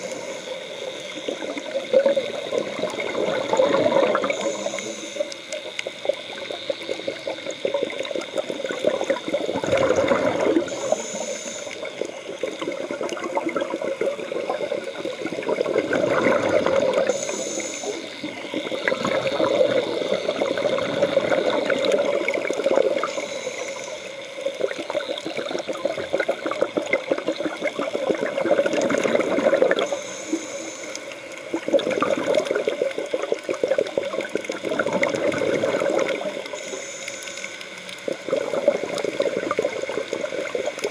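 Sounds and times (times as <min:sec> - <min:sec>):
regulator hissing: 0:00.0 - 0:27.2, 0:28.4 - 0:31.7, 0:35.8 - 0:40.9
underwater bubbles rushing: 0:00.0 - 0:40.9.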